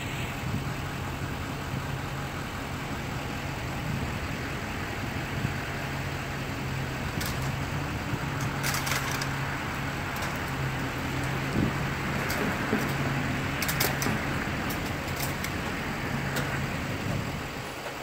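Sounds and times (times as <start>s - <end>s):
crane engine running: 0.0s - 18.0s.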